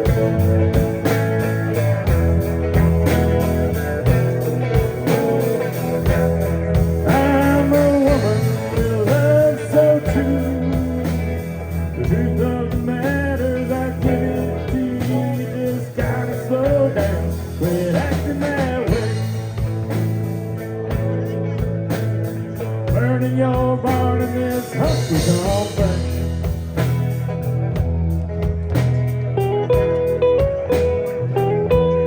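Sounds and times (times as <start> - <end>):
live band playing country-rock: 0.0 - 32.0.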